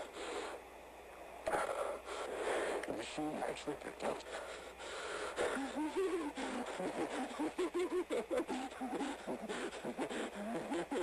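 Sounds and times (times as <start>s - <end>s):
tape-like hiss: 0.0s - 11.0s.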